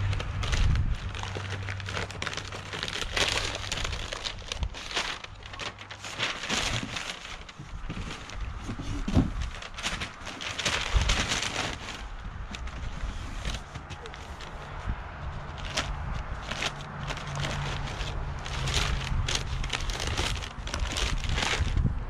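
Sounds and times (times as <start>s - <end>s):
packing paper rustling and crinkling: 0.0s - 22.0s.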